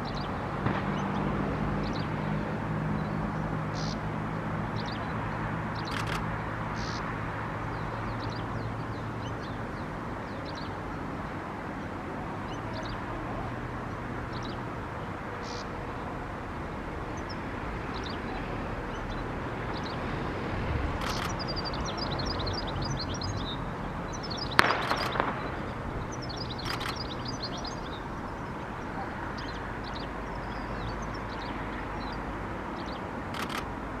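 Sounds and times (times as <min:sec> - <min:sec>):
outdoor background noise: 0:00.0 - 0:34.0
small birds chirping: 0:03.0 - 0:11.2, 0:12.4 - 0:16.0, 0:17.1 - 0:20.0, 0:21.0 - 0:33.6.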